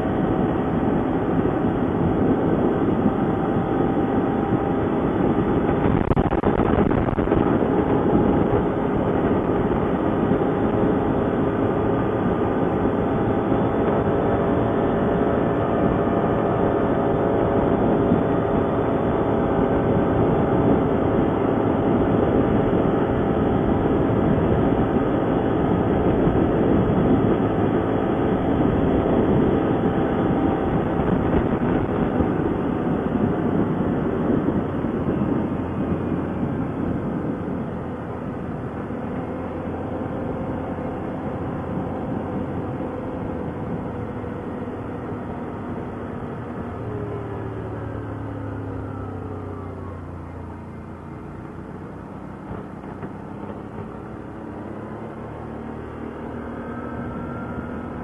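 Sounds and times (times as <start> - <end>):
atv engine drone: 0.0 - 58.0.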